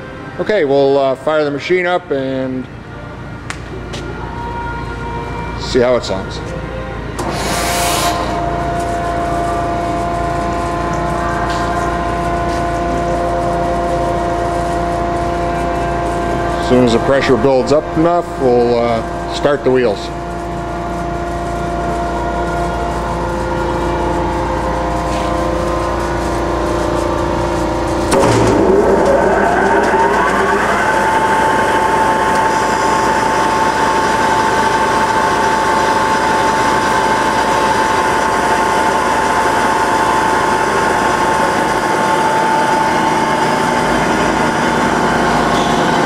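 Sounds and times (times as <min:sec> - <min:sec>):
grinding wheels whining: 0:06.9 - 0:46.0
grinder machine hum: 0:07.1 - 0:46.0.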